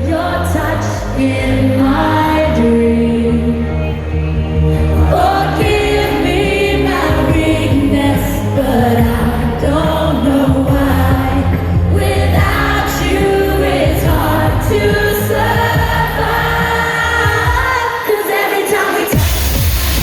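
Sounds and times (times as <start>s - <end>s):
steady bass line: 0.0s - 17.7s, 19.2s - 20.0s
live pop music with singing: 0.0s - 20.0s.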